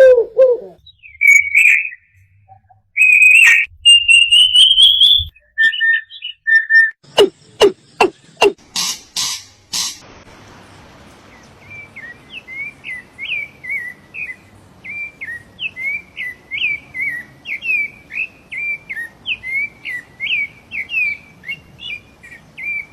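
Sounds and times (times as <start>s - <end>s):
songbird chirping: 0.0s - 10.0s, 10.6s - 22.9s.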